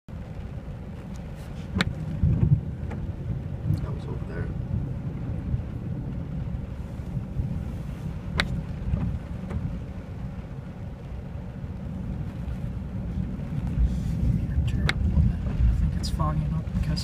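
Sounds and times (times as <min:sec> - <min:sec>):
low rumble inside car: 0:00.1 - 0:17.0.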